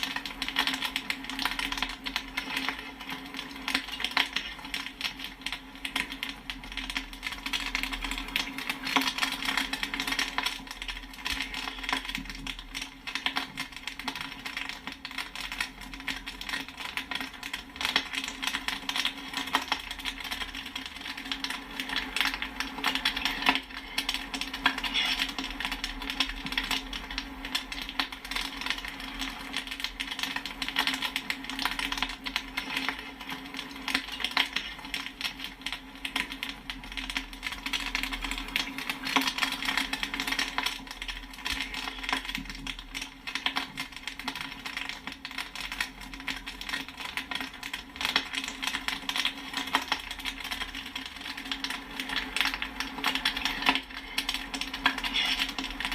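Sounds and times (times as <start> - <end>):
low steady hum: 0.0 - 55.9
popcorn popping: 0.0 - 55.9.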